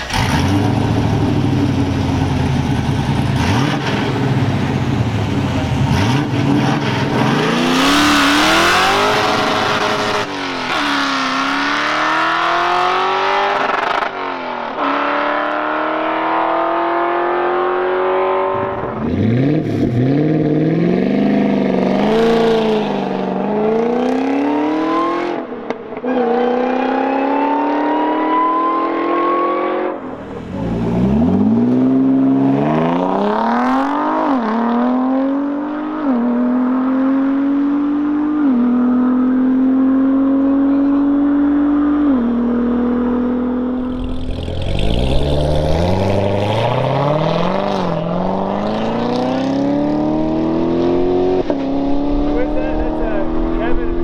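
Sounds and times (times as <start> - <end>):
sports car engines accelerating: 0.0 - 54.0.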